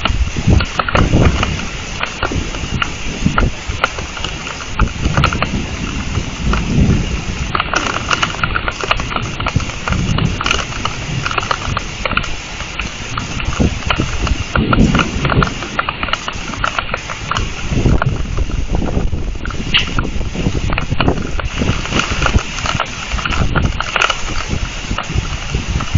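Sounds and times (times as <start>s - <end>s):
heavy rain falling: 0.0s - 25.9s
low thunder rumbles: 0.0s - 25.9s
raindrops clicking on surfaces: 0.0s - 25.9s.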